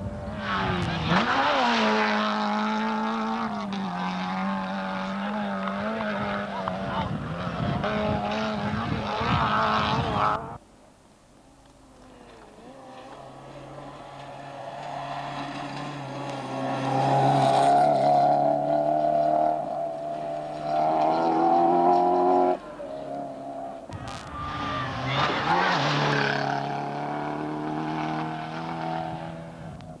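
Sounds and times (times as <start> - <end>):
loud engine with road noise: 0.0 - 10.6, 13.0 - 30.0
rally car engine revving high: 0.0 - 10.6, 12.6 - 30.0.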